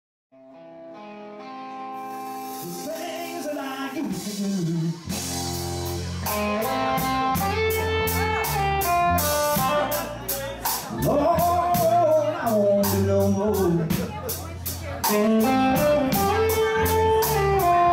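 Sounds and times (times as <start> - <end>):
electric bass: 0.4 - 17.9
electric guitar: 0.4 - 17.9
drum kit: 1.9 - 17.9.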